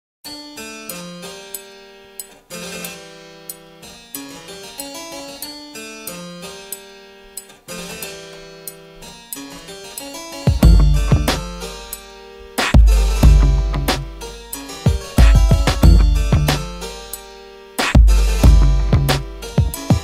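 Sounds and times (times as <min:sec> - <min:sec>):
plucked harpsichord-like keyboard music: 0:00.2 - 0:20.0.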